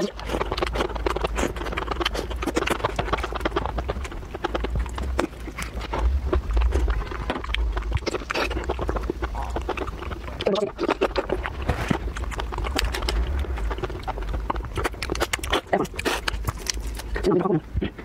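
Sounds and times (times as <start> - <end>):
wet sucking and slurping: 0.0 - 17.2
small rapid mouth clicks: 0.0 - 18.0
steady low hum: 0.0 - 18.0.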